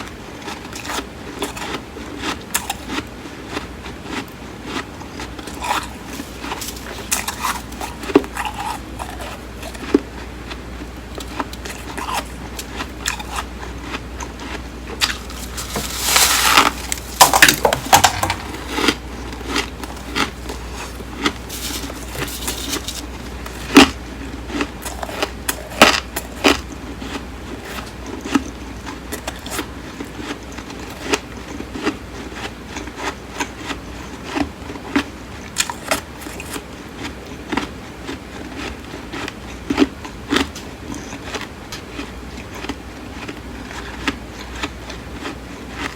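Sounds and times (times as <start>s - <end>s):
chewing crunchy frost: 0.0s - 45.9s.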